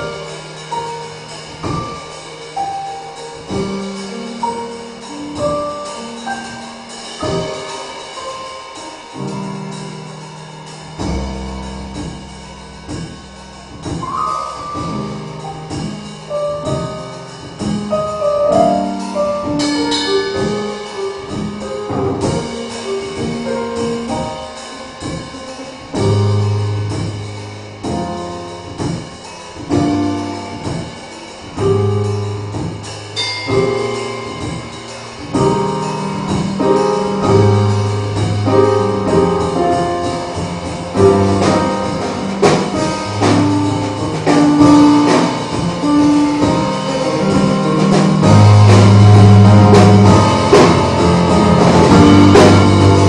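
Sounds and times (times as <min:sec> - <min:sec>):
deep bass notes: 0:00.0 - 0:08.1, 0:08.7 - 0:53.0
keyboard chords and melody: 0:00.0 - 0:53.0
light drum strokes: 0:00.0 - 0:53.0.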